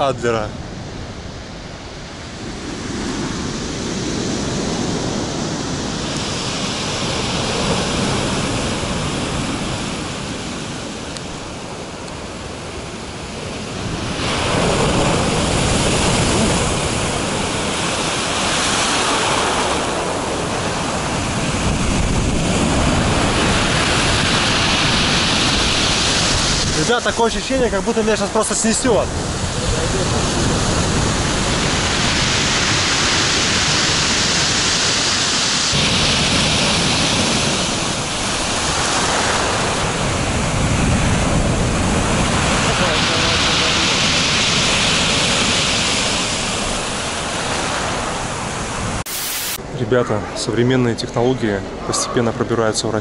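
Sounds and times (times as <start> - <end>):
waves breaking on pebble beach: 2.4 - 49.1.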